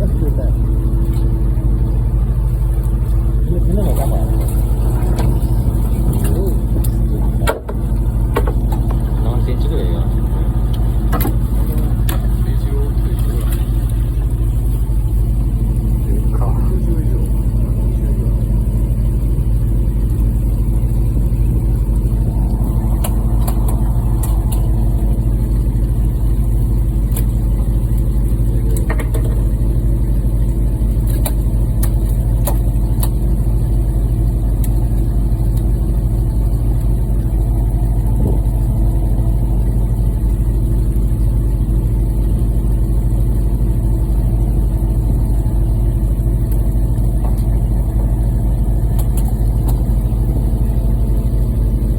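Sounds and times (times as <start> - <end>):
boat engine humming: 0.0 - 51.9.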